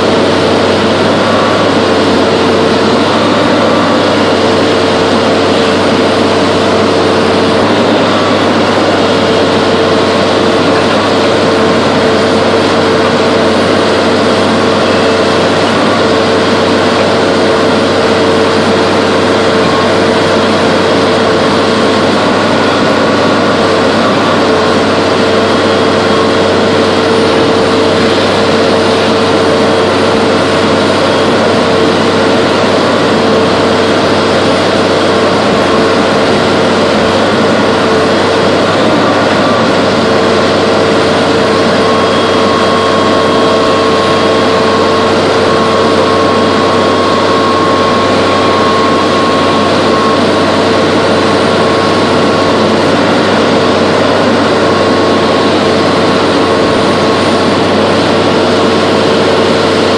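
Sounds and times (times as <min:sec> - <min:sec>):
diesel engine running under load: 0:00.0 - 0:59.9
steady whine: 0:00.0 - 0:59.9.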